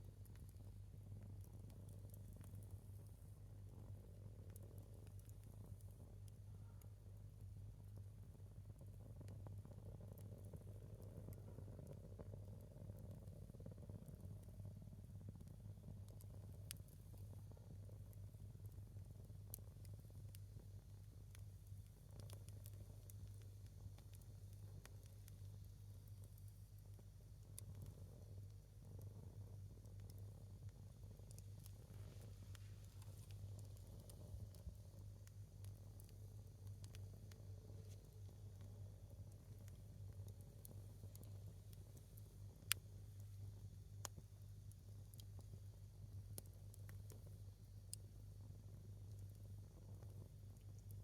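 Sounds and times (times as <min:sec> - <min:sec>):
log fire crackling: 0:00.0 - 0:51.0
low steady hum: 0:00.0 - 0:51.0.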